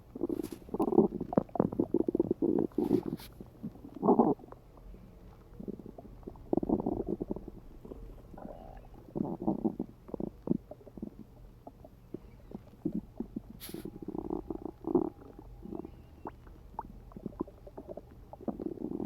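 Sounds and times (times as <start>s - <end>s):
stomach gurgling: 0.0s - 19.0s.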